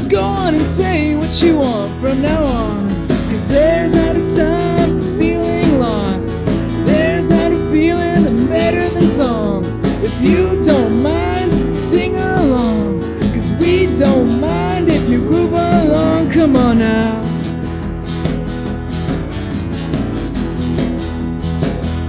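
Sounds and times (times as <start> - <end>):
sliding lead melody: 0.0 - 22.0
strummed acoustic guitars: 0.0 - 22.0.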